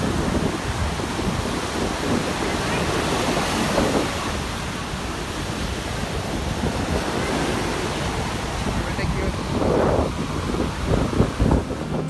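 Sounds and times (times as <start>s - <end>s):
waves breaking on shore: 0.0s - 12.0s
wind buffeting microphone: 0.0s - 12.0s.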